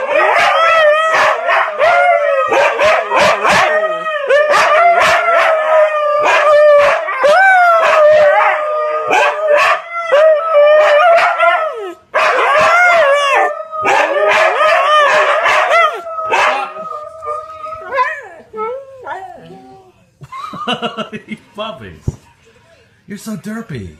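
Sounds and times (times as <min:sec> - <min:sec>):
dogs yapping and barking: 0:00.0 - 0:19.4
dogs howling: 0:00.0 - 0:19.9.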